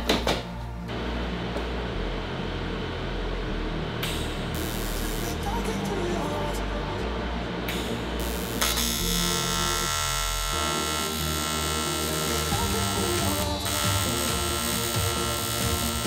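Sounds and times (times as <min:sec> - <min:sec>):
welding arc buzzing: 0:00.9 - 0:06.2, 0:07.7 - 0:16.0.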